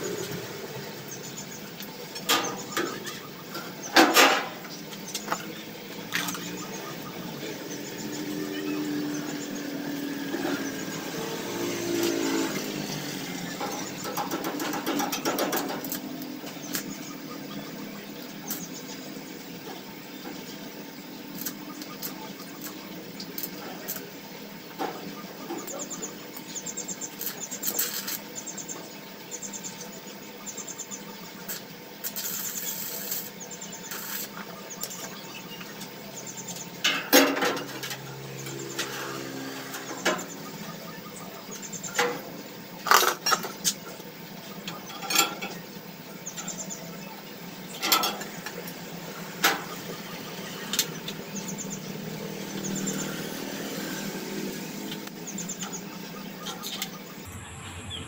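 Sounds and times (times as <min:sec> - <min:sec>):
arc welder crackling sizzle: 0:00.0 - 0:58.0.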